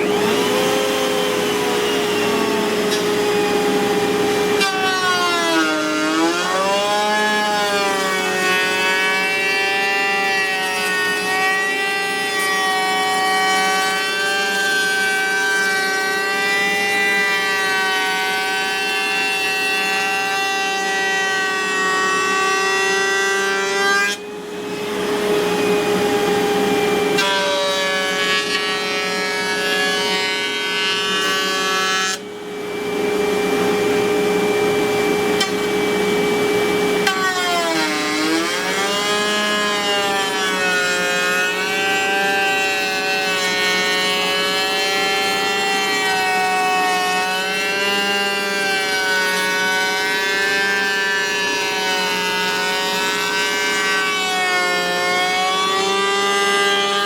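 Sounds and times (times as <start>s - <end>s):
wood router whining: 0.0s - 57.0s.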